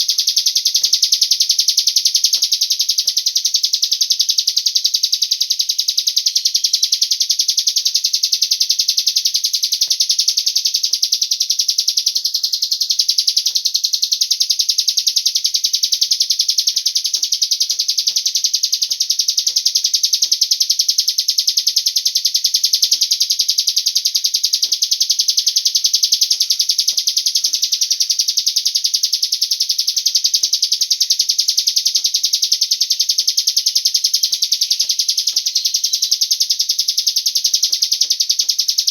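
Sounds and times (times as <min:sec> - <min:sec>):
high-pitched bird trill: 0:00.0 - 0:38.9.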